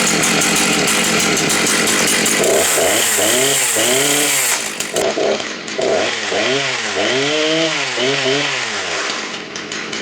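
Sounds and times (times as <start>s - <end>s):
chainsaw revving: 0.0s - 10.0s.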